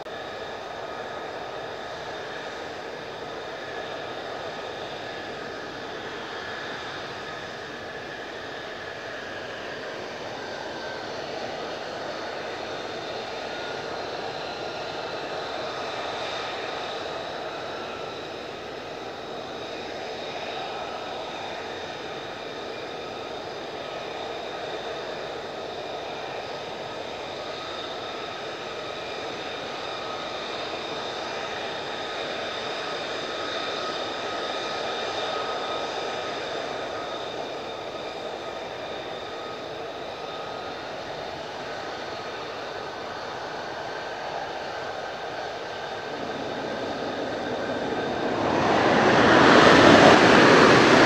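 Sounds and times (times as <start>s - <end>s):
jet engine with high whine: 0.0s - 51.0s.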